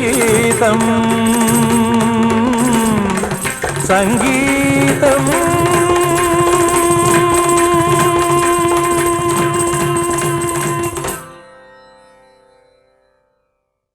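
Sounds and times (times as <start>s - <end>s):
rhythmic percussion: 0.0s - 11.4s.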